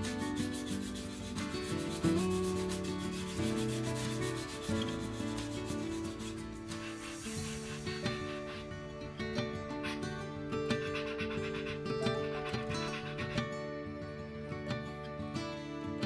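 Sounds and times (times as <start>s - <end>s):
sandpaper rubbing on wood: 0.0s - 13.4s.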